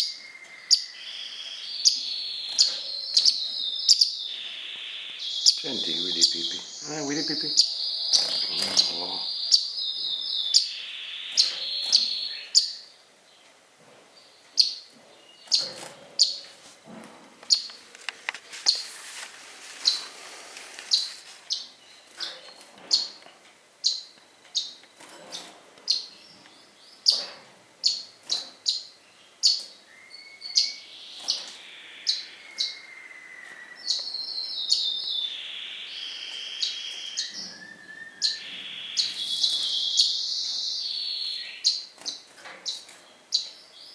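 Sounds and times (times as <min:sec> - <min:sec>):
high trilling birdsong: 0:00.0 - 0:16.6, 0:17.5 - 0:18.0, 0:18.6 - 0:43.9
birds chirping: 0:00.0 - 0:43.9.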